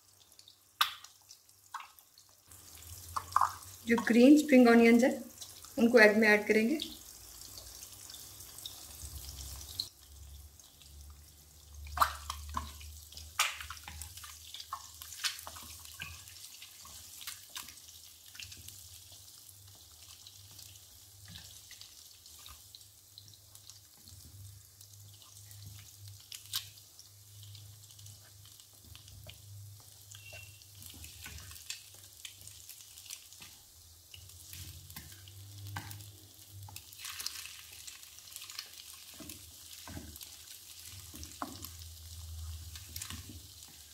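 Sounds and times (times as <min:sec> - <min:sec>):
eggs frying in oil: 0:00.0 - 0:43.9.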